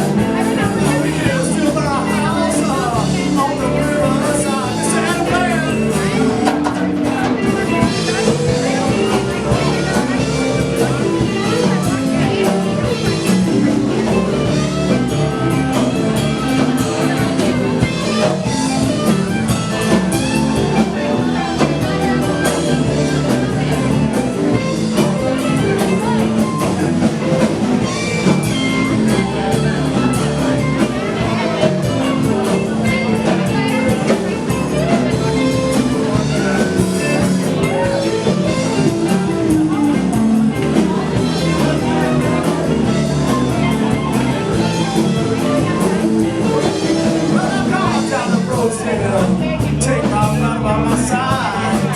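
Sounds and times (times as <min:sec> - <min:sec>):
drum kit steady beat: 0:00.0 - 0:51.9
guitar: 0:00.0 - 0:51.9
live blues band playing: 0:00.0 - 0:51.9.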